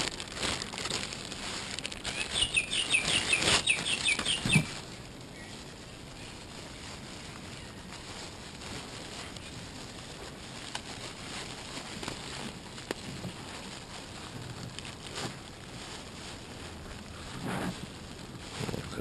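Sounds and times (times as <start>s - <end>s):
outdoor hiss: 0.0s - 19.0s
plastic bag crinkling: 0.0s - 19.0s.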